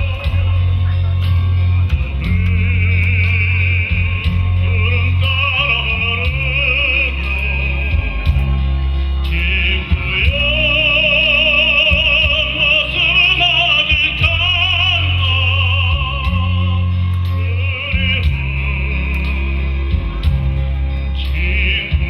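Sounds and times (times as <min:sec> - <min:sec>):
bass accompaniment: 0:00.0 - 0:22.0
operatic melody with vibrato: 0:00.0 - 0:22.0.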